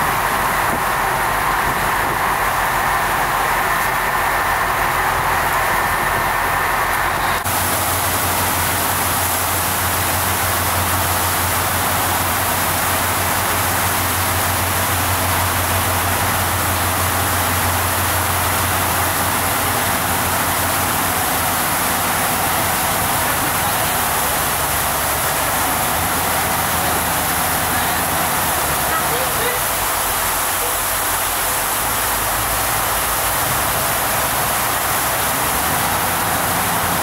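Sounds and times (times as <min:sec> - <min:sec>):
boat engine drone: 0:00.0 - 0:37.0
rushing water and air: 0:00.0 - 0:37.0.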